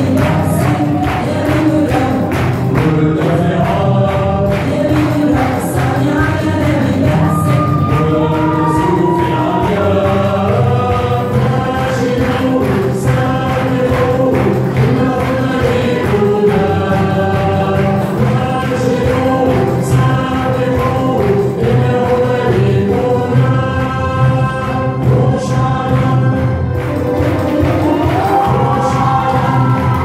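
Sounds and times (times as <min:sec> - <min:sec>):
choir singing held notes: 0:00.0 - 0:30.0.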